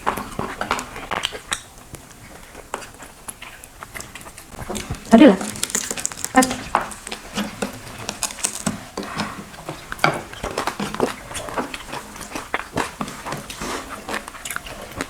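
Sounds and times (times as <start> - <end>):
eating clicks and wet smacks: 0.0 - 15.0.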